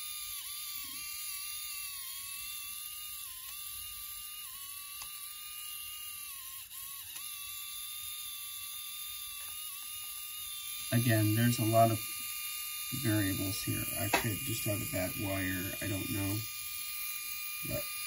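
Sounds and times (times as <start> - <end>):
small motor whining: 0.0 - 18.0.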